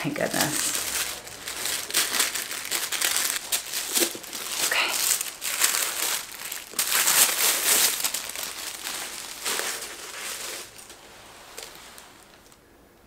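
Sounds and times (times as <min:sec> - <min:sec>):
paper wrapping rustling: 0:00.0 - 0:12.6.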